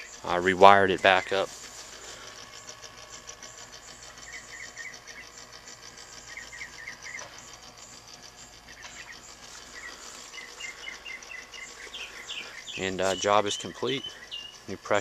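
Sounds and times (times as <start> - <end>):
higher insect chirps: 0.0 - 15.0
insects chirping: 0.0 - 15.0.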